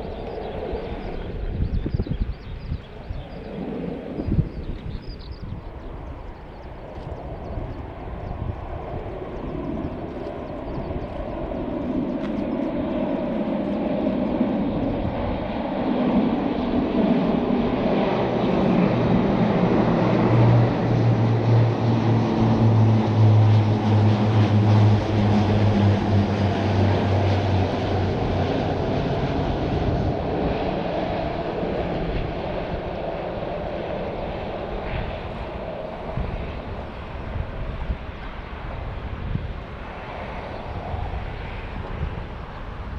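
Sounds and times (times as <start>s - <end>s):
aircraft engine flying past: 0.0s - 42.9s.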